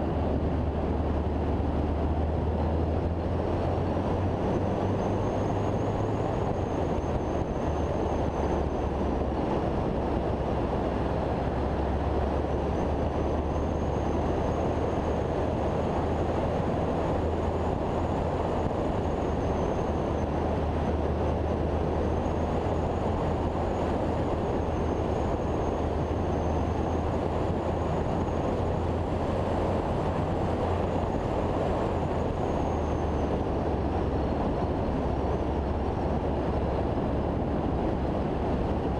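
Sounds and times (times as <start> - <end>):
car engine drone: 0.0 - 38.9
road and wind rumble: 0.0 - 38.9.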